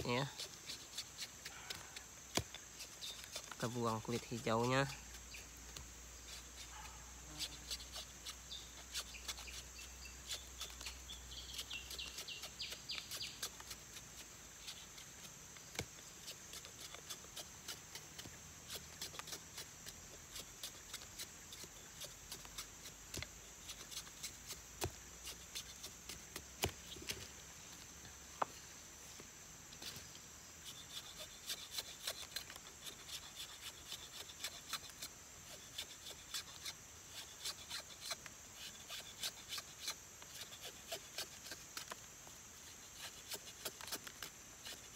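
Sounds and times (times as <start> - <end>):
machete scraping plant stem: 0.0 - 27.3, 29.7 - 44.9
insect drone: 0.0 - 44.9.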